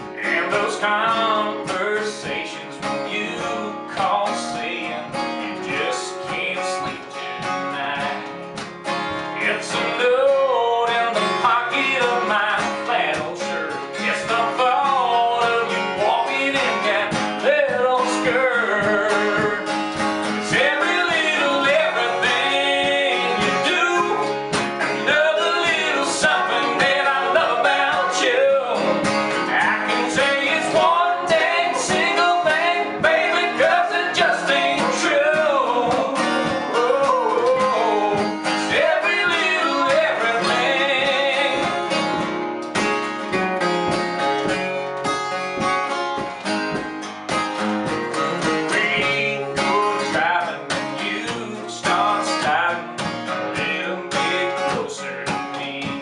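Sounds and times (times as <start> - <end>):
man singing: 0.0 - 8.5, 9.1 - 42.4, 48.1 - 56.0
acoustic guitars strumming: 0.0 - 56.0.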